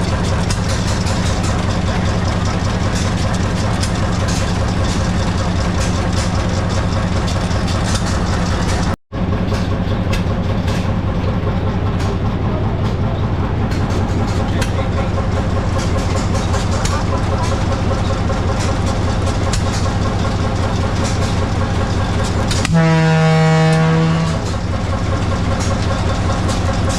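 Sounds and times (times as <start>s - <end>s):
engine running steadily: 0.0s - 26.9s.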